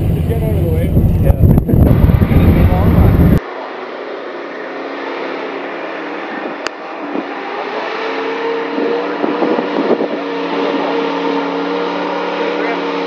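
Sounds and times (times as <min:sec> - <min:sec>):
constant rushing noise: 0:00.0 - 0:13.0
truck engine pulling through mud: 0:01.9 - 0:13.0.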